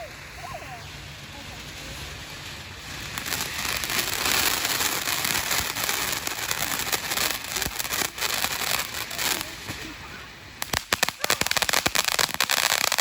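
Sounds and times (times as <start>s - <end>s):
firework fountain hissing and crackling: 0.0s - 13.0s.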